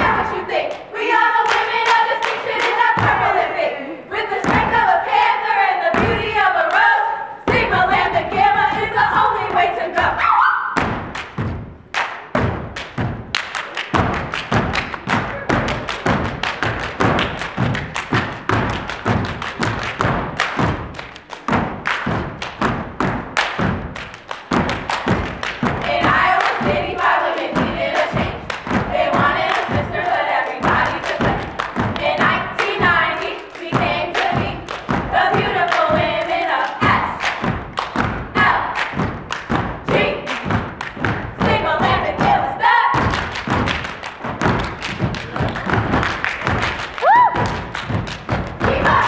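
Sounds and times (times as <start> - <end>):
people clapping rhythmically: 0.0 - 49.0.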